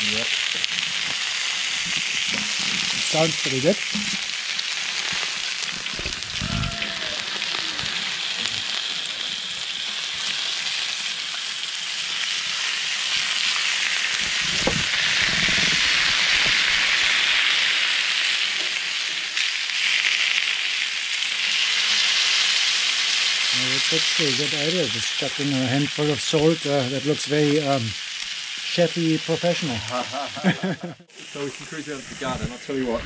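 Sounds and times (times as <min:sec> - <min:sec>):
fish sizzling on grill plate: 0:00.0 - 0:33.0.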